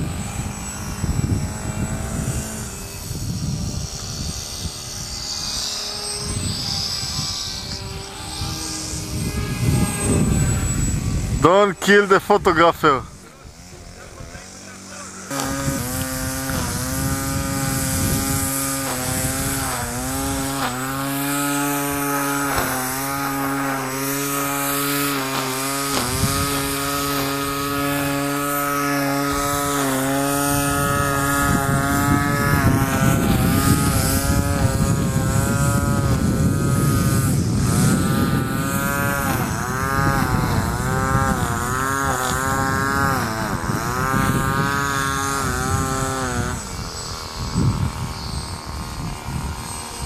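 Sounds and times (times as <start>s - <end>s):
electric propeller buzzing whine: 0.0s - 50.0s.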